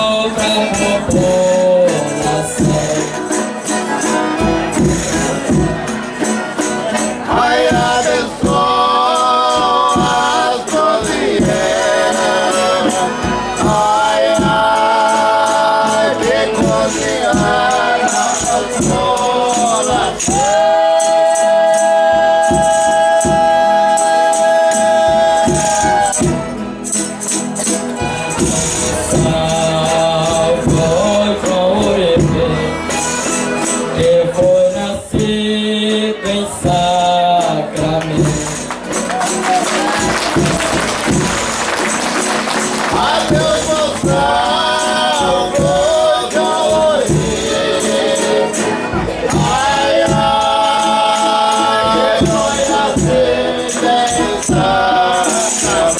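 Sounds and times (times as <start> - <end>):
group singing in several voices: 0.0 - 55.9
hand percussion: 0.0 - 55.9.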